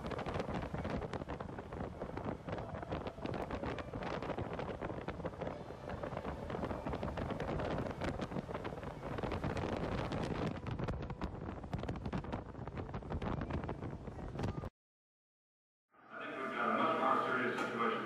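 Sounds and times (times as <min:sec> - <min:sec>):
motorcycle engine and road noise: 0:00.0 - 0:14.7
wind buffeting microphone: 0:00.0 - 0:14.7.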